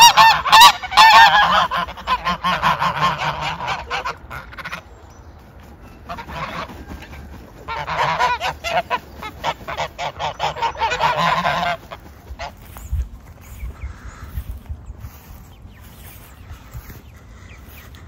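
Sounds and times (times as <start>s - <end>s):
geese honking: 0.0s - 5.1s, 5.8s - 18.0s.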